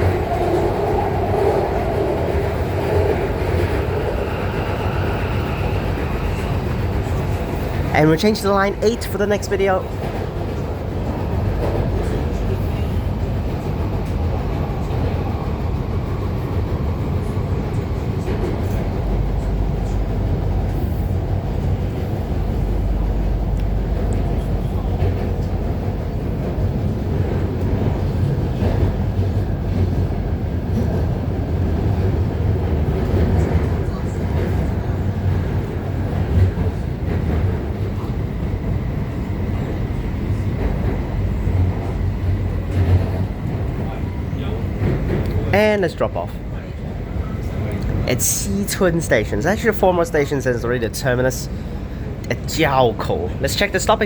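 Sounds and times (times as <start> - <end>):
train rumbling in tunnel: 0.0 - 54.0.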